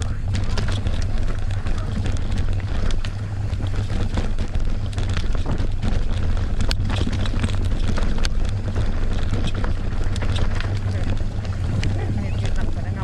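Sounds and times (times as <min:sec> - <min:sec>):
bike clicks and rattles: 0:00.0 - 0:13.0
bike tyre noise: 0:00.0 - 0:13.0
wind buffeting microphone: 0:00.0 - 0:13.0.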